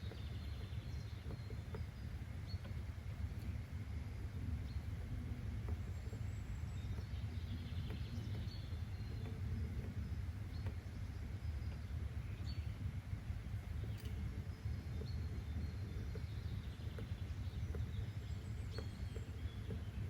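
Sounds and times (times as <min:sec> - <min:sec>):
soft clicks: 0:00.0 - 0:20.0
steady low rumble: 0:00.0 - 0:20.0.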